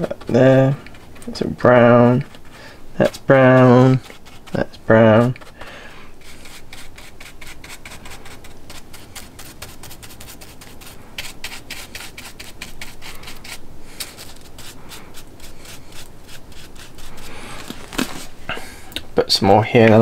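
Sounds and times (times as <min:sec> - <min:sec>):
paintbrush bristles scrubbing: 0:00.0 - 0:18.4.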